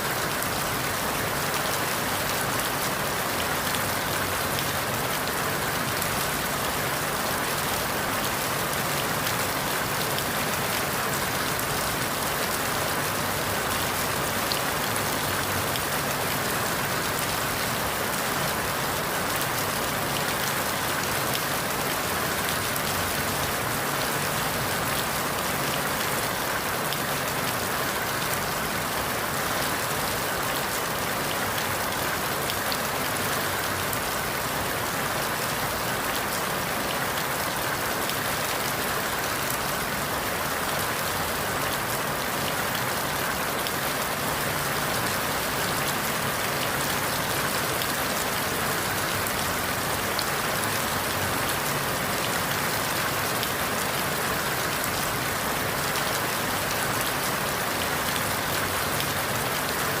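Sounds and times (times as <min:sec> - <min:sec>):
rain falling through leaves: 0:00.0 - 1:00.0.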